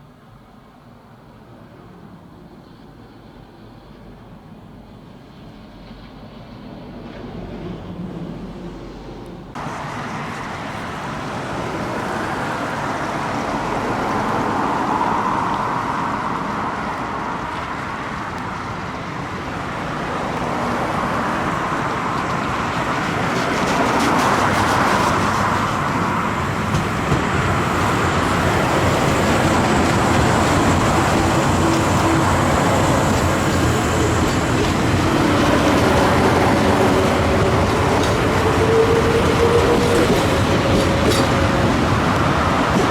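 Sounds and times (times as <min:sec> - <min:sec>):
train approaching slowly: 0:00.0 - 0:42.9.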